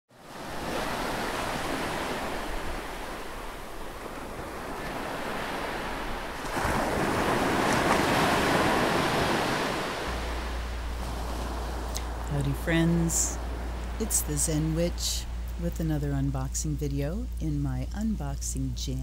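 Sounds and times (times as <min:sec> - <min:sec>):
ocean waves washing in: 0:00.1 - 0:16.4.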